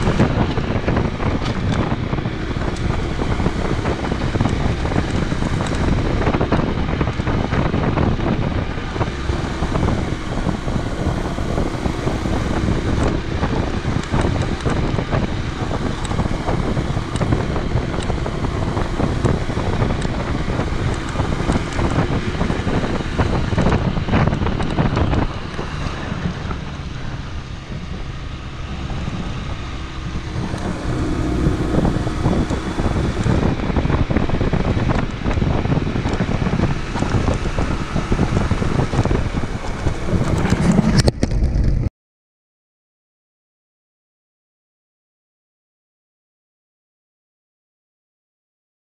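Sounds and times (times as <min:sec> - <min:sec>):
motorcycle engine running: 0:00.0 - 0:41.9
wind buffeting microphone: 0:00.0 - 0:41.9.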